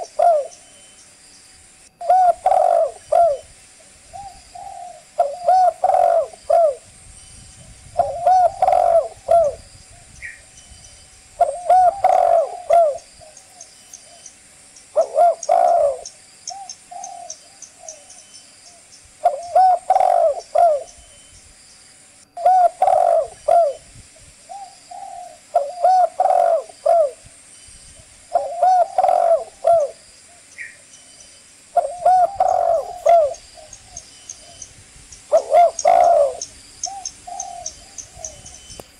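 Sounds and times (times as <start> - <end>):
dove cooing: 0.0 - 0.8, 2.0 - 6.9, 7.6 - 10.4, 11.4 - 14.3, 14.9 - 21.1, 22.3 - 27.4, 28.3 - 30.8, 31.7 - 38.9.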